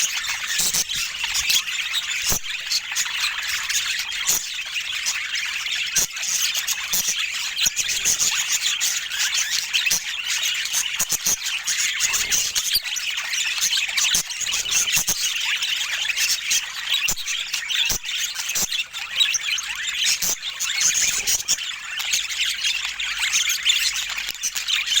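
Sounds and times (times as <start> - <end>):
budgerigars chattering and squawking: 0.0 - 25.0.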